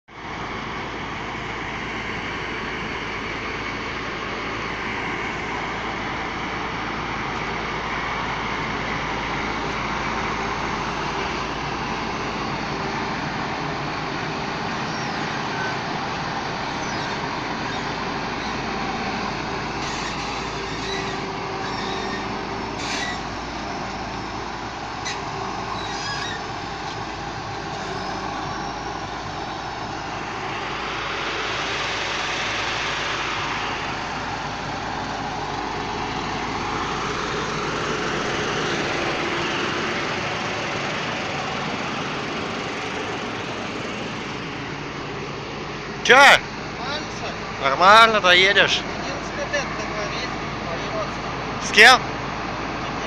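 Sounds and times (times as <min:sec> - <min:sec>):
large vehicle engine drone: 0:00.0 - 0:53.0.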